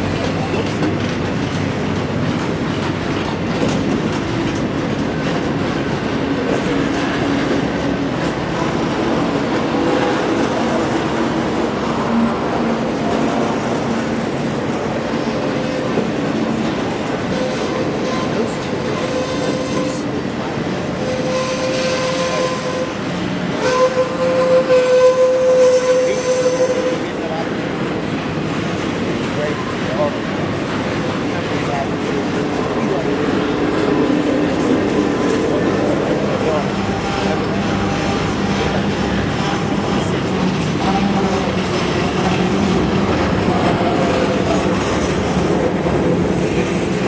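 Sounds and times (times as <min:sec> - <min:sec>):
train wheels rumbling and clattering: 0:00.0 - 0:47.0.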